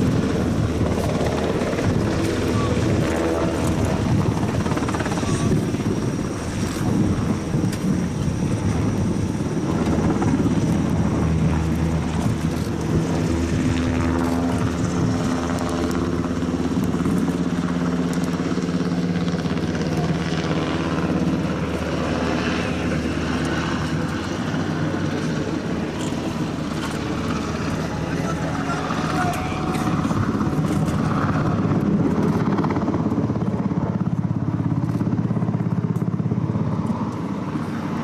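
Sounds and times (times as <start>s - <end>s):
engine running drone: 0.0s - 38.0s.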